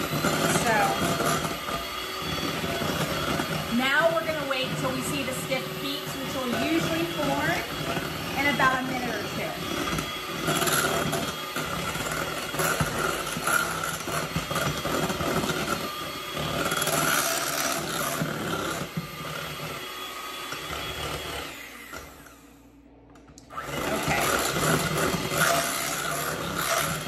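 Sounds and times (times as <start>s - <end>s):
electric hand mixer whipping cream: 0.0s - 27.0s.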